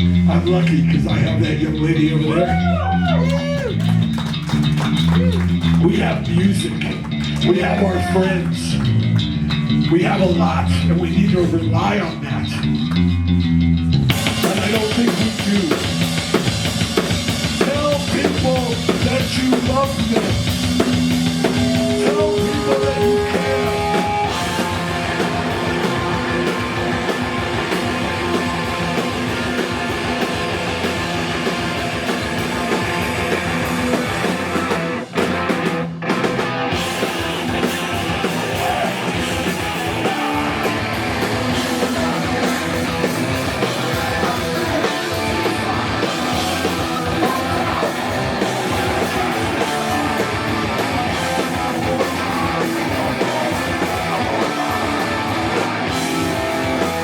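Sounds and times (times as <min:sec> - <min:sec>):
live punk rock band: 0:00.0 - 0:57.0.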